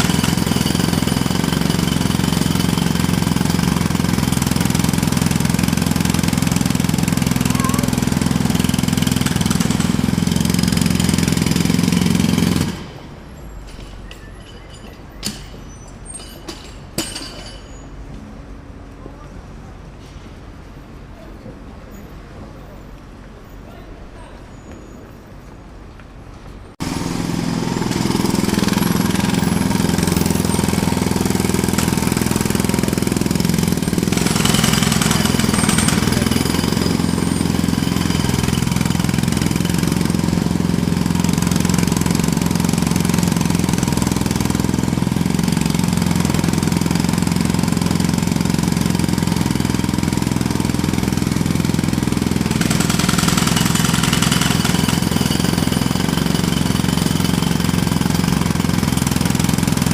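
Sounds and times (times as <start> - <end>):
jackhammer hammering: 0.0 - 13.2, 13.8 - 17.8, 26.8 - 59.9.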